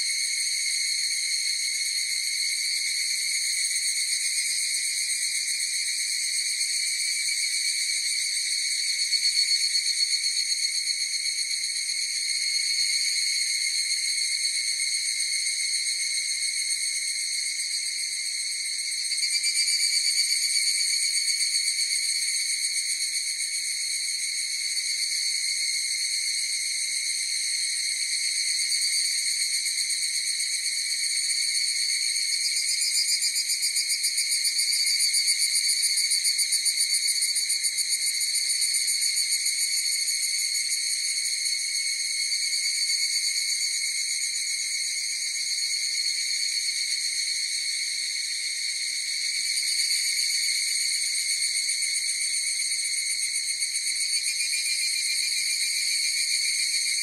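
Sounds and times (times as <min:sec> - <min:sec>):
cicadas trilling in chorus: 0:00.0 - 0:57.0.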